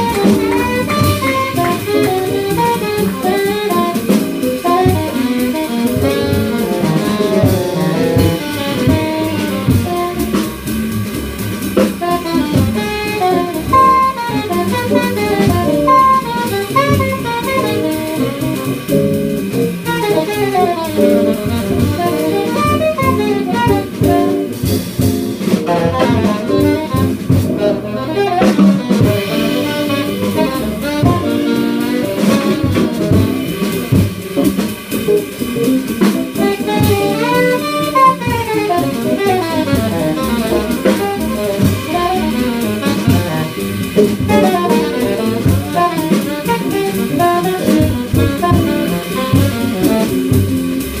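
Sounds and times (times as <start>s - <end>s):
double bass: 0.0s - 51.0s
drum kit: 0.0s - 51.0s
guitar: 0.0s - 51.0s
piano: 0.0s - 51.0s
saxophone lead line: 0.0s - 51.0s.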